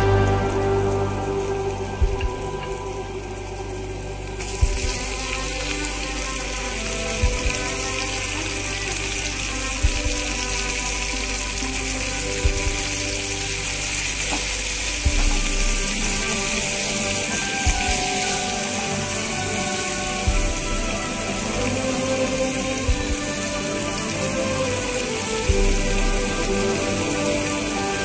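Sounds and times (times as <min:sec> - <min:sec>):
music with slow steady beat: 0:00.0 - 0:28.0
onions sizzling in frying pan: 0:00.0 - 0:28.0.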